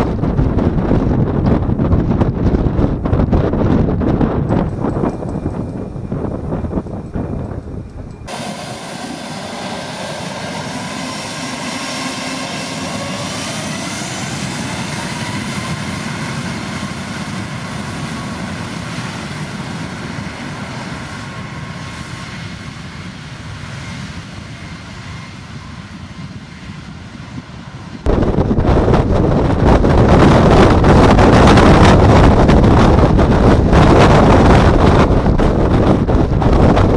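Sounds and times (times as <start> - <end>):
rising engine whine: 0.0 - 36.9
jet engines spooling up: 0.1 - 36.9.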